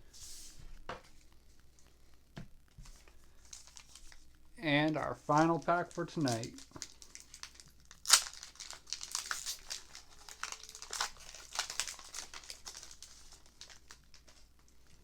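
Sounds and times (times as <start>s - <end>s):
foil wrapper crinkling: 2.9s - 15.0s.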